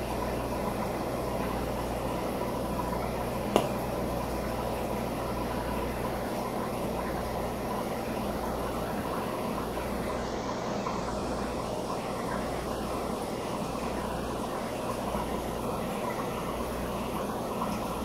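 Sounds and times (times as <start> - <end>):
aquarium equipment humming: 0.0 - 18.0.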